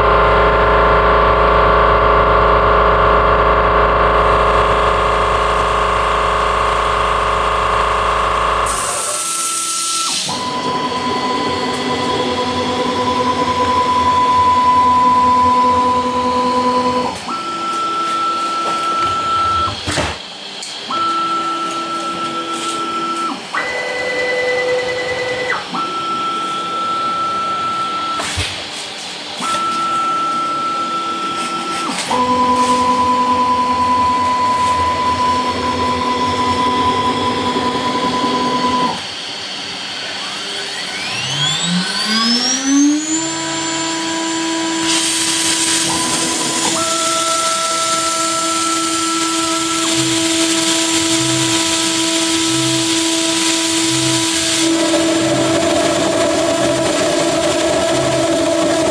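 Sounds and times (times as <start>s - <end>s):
spindle whine: 0.0s - 28.4s, 29.2s - 58.9s
axis drive motors whining: 0.0s - 28.6s, 29.2s - 58.9s.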